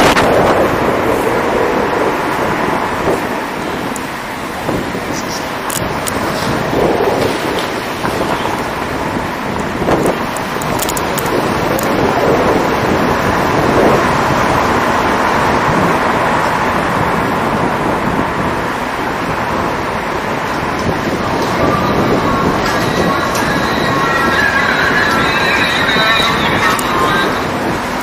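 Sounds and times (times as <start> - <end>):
car road noise: 0.0 - 28.0.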